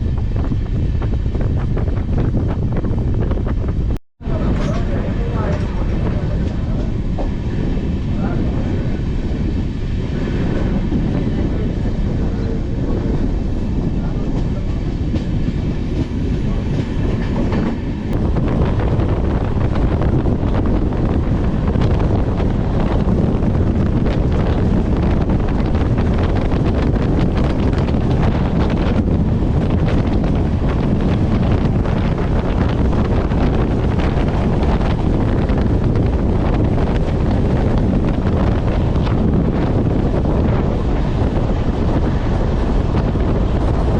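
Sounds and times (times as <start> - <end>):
train wheels rumbling on rails: 0.0 - 43.9
wind: 0.0 - 43.9.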